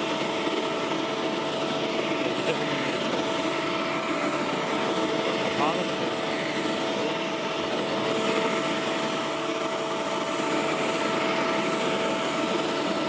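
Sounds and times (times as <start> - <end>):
motor and fan whine: 0.0 - 13.0.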